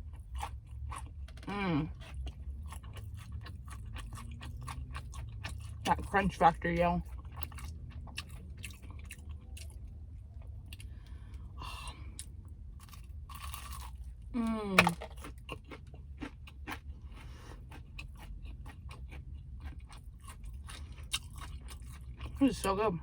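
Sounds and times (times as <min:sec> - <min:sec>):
chewing crispy fried chicken: 0:00.0 - 0:23.0
steady low hum: 0:00.0 - 0:23.0.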